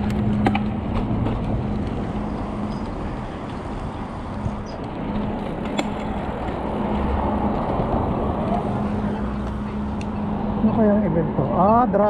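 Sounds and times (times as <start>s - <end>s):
wind rumbling over microphone: 0.0s - 10.7s.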